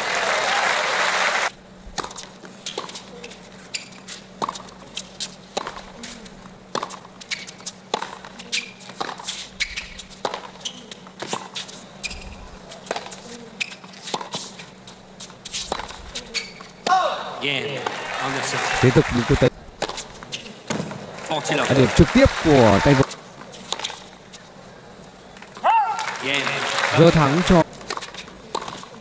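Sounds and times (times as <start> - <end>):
quiet stadium background: 0.0 - 29.0.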